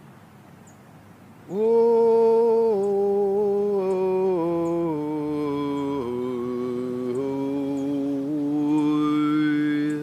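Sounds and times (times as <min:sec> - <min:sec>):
man singing wordless notes: 0:01.4 - 0:10.0.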